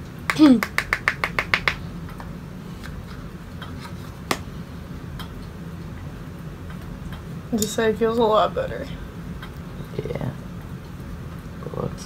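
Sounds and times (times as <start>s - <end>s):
low steady room hum: 0.0s - 12.0s.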